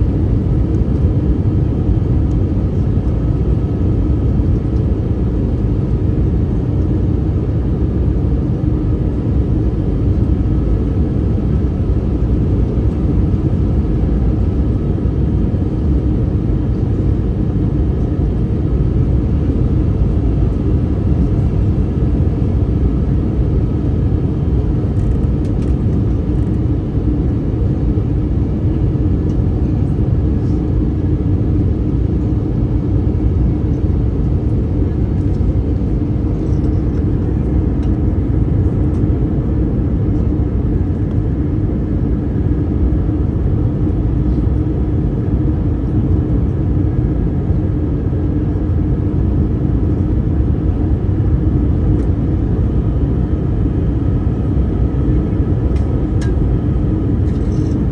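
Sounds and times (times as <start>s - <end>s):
airplane cabin engine roar: 0.0s - 57.9s
faint hum: 0.0s - 57.9s.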